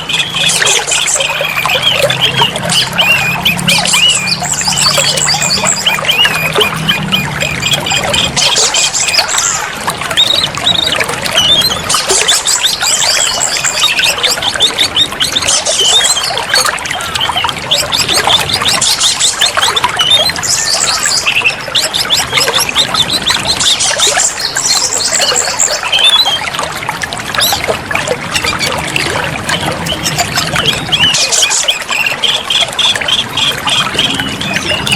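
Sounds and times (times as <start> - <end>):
bird singing with trills: 0.0 - 26.6, 27.3 - 34.9
trickle of running water: 0.0 - 34.9.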